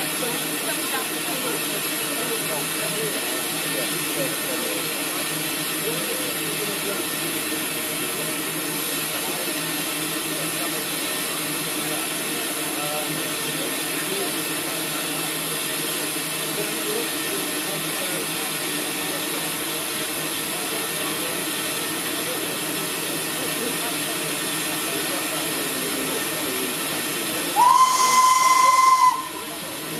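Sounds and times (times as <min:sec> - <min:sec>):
steam locomotive hissing: 0:00.0 - 0:29.9.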